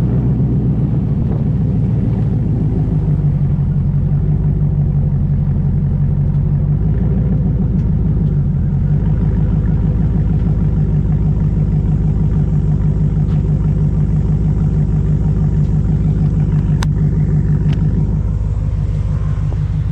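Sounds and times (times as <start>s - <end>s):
engine exhaust rumble: 0.0s - 19.9s.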